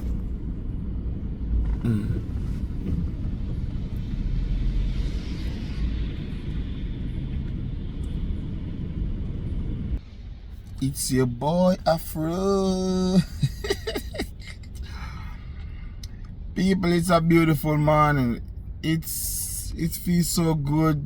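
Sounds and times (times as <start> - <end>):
road rumble inside car: 0.0 - 21.0.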